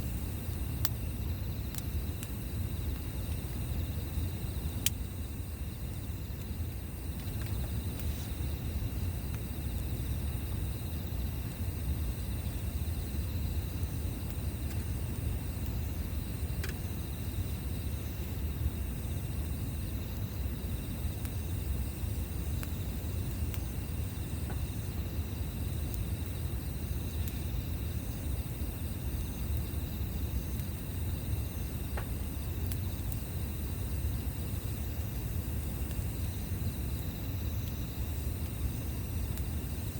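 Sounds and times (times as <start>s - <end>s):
campfire burning: 0.0s - 39.9s
fire popping: 0.0s - 39.9s
insects trilling: 0.0s - 39.9s.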